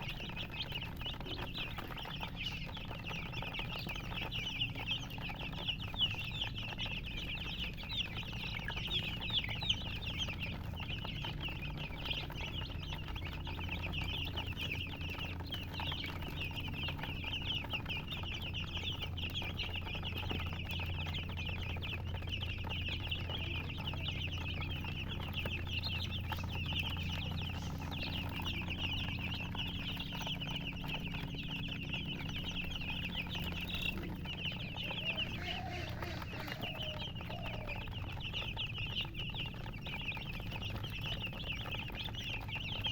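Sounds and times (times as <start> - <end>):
baby chicks peeping: 0.0 - 42.9
steady low hum: 0.0 - 42.9.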